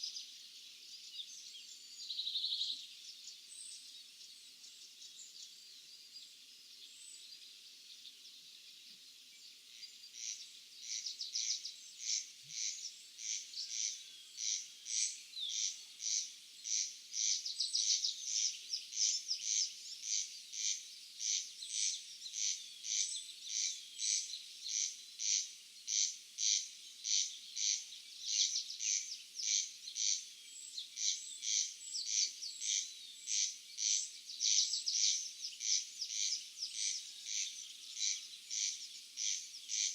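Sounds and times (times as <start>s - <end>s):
faint birds chirping: 0.0s - 39.9s.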